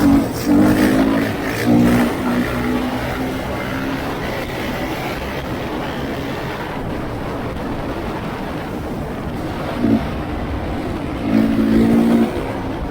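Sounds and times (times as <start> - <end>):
dirt bike engine revving: 0.0 - 6.9, 8.8 - 12.9.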